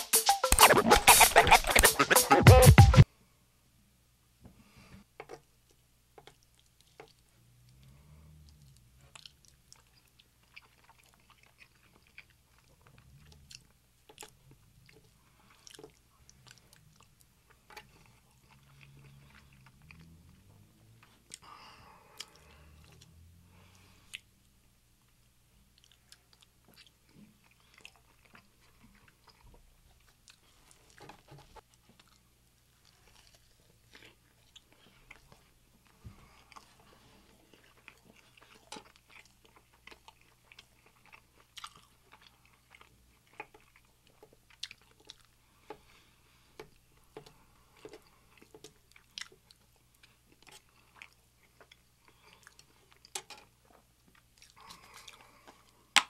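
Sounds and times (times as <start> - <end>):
faint low hum: 3.0 - 56.0
man chewing food: 4.7 - 56.0.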